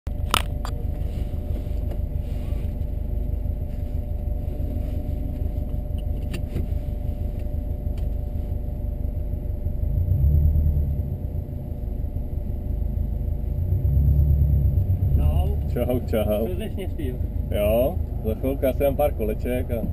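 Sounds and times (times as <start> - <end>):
car engine idling: 0.1 - 19.9.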